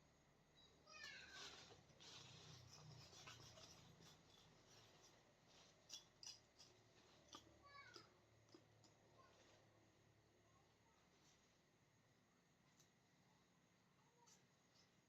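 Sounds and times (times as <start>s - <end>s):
faint rustling and scraping: 0.7s - 13.2s, 13.9s - 15.0s.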